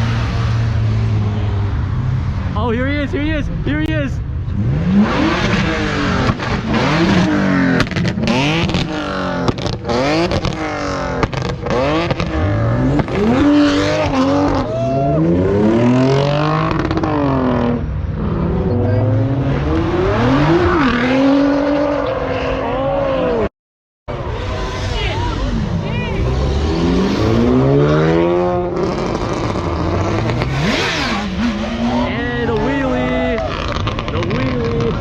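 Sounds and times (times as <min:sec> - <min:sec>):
car engine revving: 0:00.0 - 0:23.5, 0:24.1 - 0:35.0.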